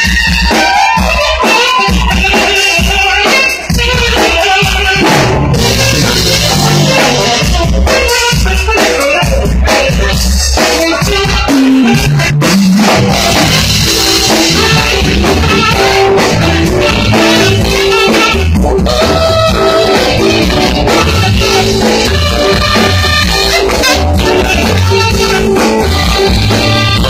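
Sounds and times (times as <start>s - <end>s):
drum kit beat: 0.0s - 27.0s
electric guitar: 0.0s - 27.0s
keyboards: 0.0s - 27.0s
saxophones: 0.0s - 27.0s.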